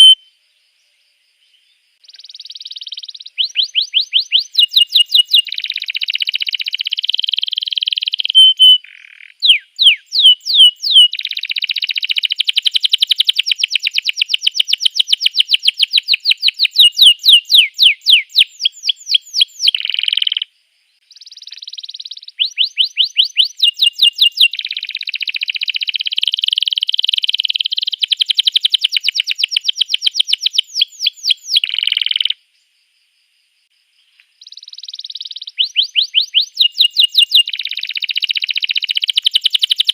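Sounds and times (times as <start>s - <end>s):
canary singing trills: 0.0s - 0.4s, 1.4s - 32.4s, 34.4s - 39.9s.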